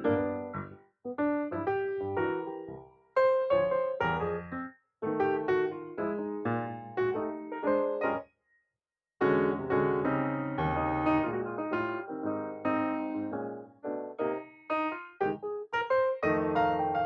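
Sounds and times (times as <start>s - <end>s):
piano music: 0.0s - 8.2s, 9.2s - 17.0s.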